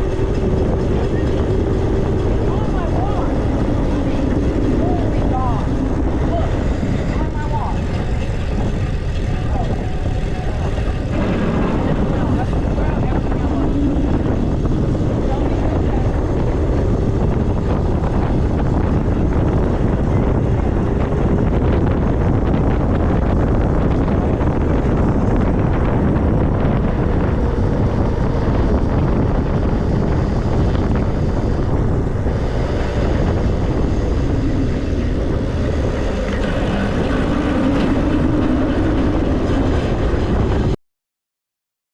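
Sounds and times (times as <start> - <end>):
tyres humming on road: 0.0 - 40.8
wind rushing over microphone: 0.0 - 40.8.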